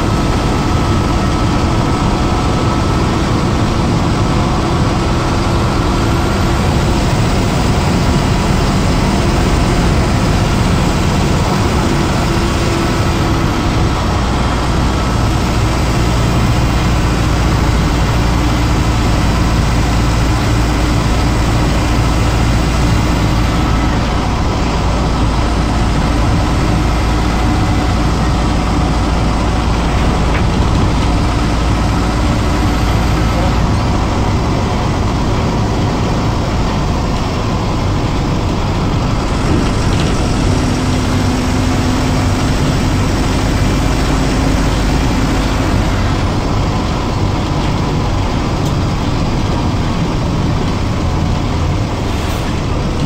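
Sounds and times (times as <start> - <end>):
bus diesel engine droning: 0.0 - 53.0
road noise: 0.0 - 53.0.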